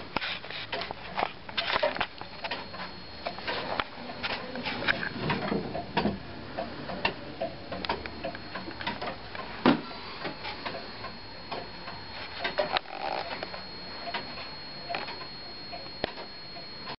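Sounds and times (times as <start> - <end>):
wall clock ticking: 0.1 - 16.9.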